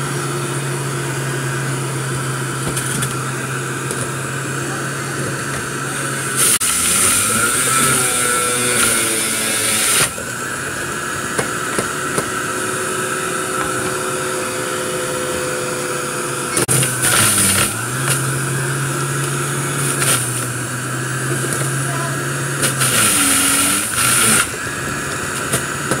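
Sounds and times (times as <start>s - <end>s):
electric juicer motor running: 0.0s - 26.0s.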